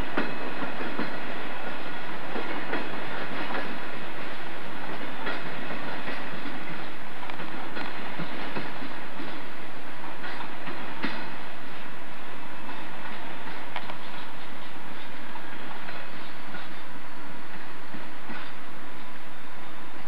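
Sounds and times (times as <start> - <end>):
train wheels clacking on rails: 0.0 - 20.0.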